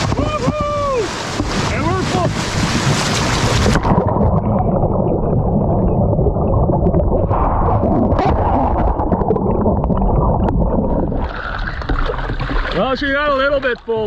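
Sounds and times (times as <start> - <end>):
muffled underwater rushing water: 0.0 - 14.0.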